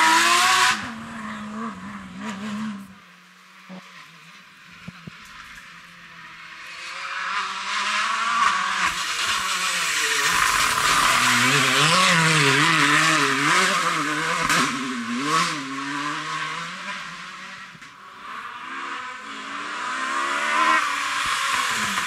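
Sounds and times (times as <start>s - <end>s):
tyre noise on damp road: 0.0s - 19.2s, 19.8s - 22.0s
rally car engine revving: 0.0s - 22.0s.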